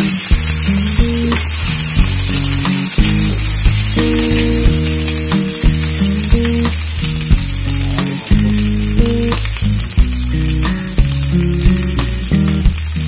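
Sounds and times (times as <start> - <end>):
meat sizzling in a pan: 0.0 - 13.0
music with deep bass beat: 0.0 - 13.0.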